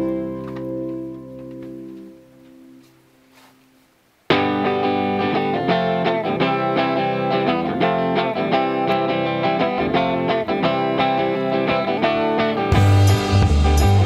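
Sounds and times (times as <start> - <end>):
guitar background music: 0.0 - 3.5, 4.3 - 14.0.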